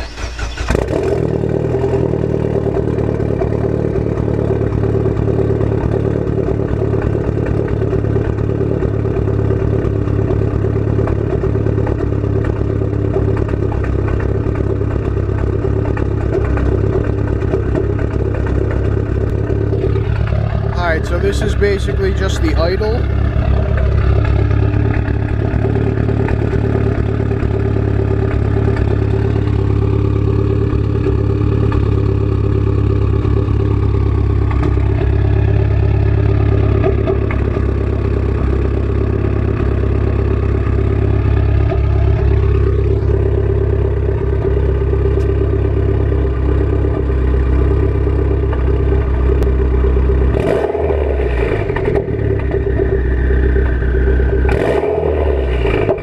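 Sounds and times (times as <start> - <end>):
car engine idling loudly: 0.0 - 56.0.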